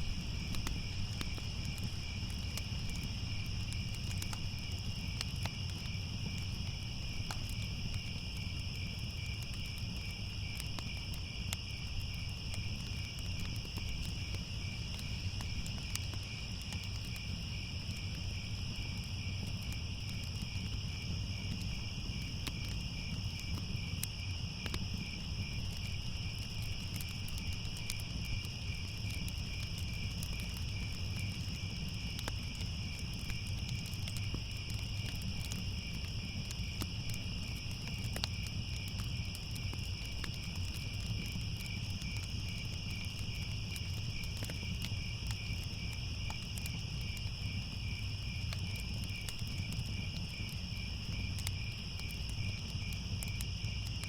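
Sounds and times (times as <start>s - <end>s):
crickets chirping: 0.0s - 54.0s
fire crackling: 0.0s - 54.0s.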